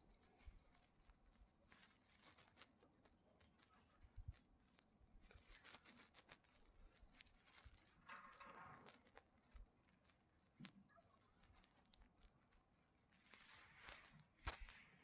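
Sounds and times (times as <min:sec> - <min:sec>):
light rustles: 0:00.0 - 0:15.0
small clicks: 0:00.0 - 0:15.0.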